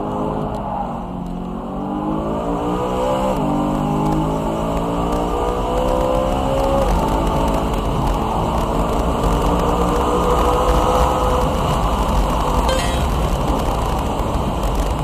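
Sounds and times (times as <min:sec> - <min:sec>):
car engine accelerating through gears: 0:00.0 - 0:15.0.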